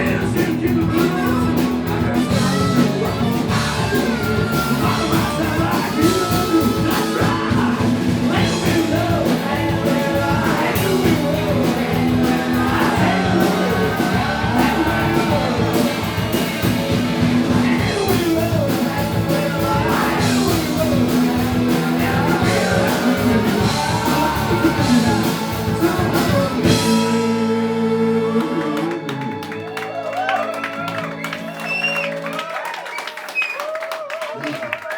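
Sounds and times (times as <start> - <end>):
person singing lead vocal: 0.0 - 29.5
live rock band playing: 0.0 - 32.4.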